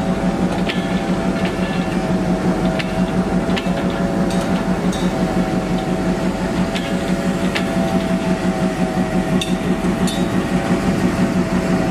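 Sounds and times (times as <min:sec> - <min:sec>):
diesel locomotive idling: 0:00.0 - 0:11.9.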